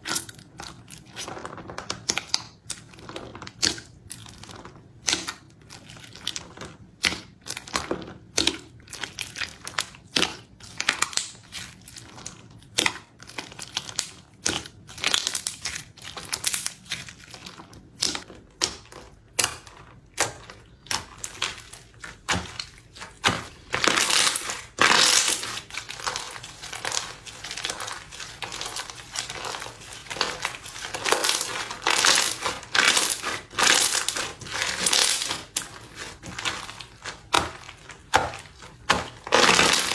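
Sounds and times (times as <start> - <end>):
slime crackling and crunching: 0.0 - 39.9.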